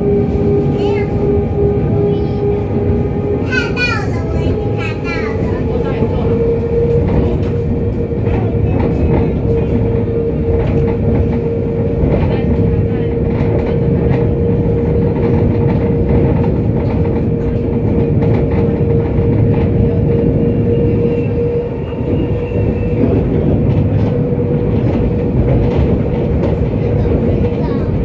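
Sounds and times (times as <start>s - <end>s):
tram wheels rumbling on rail: 0.0s - 28.0s.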